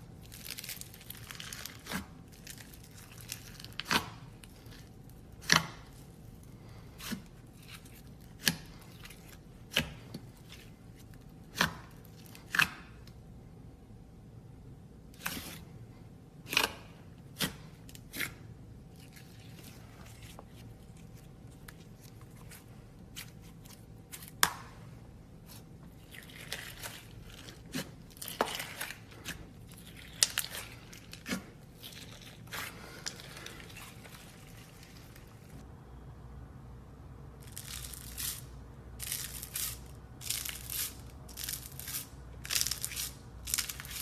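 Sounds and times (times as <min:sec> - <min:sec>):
slime crackling: 0:00.0 - 0:13.0, 0:16.5 - 0:35.6, 0:39.0 - 0:44.0.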